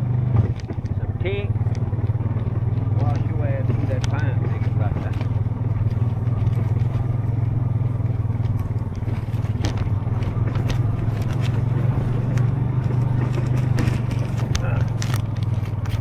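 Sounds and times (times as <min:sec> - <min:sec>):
atv engine droning: 0:00.0 - 0:16.0
sharp clicks and scrapes: 0:00.3 - 0:16.0.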